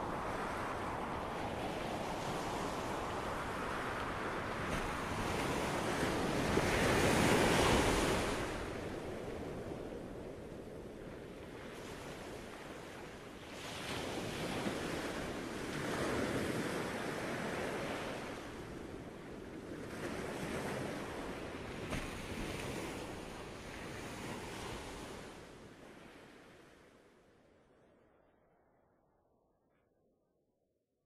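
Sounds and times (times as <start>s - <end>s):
sea waves washing in: 0.0s - 27.1s.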